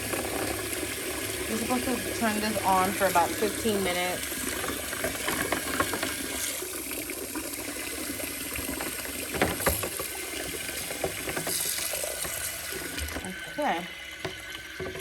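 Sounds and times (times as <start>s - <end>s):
dishwasher water sloshing: 0.0s - 15.0s.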